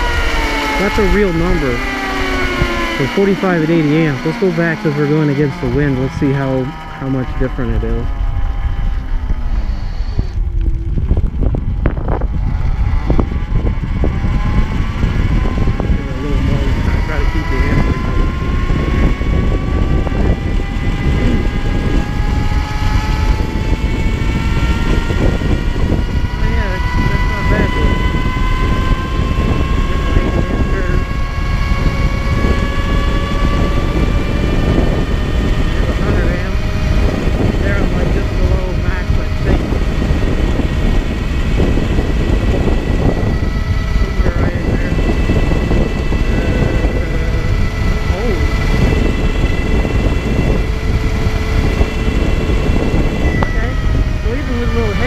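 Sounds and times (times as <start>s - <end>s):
electric motorcycle motor whining: 0.0s - 55.0s
wind rumble on microphone: 0.0s - 55.0s.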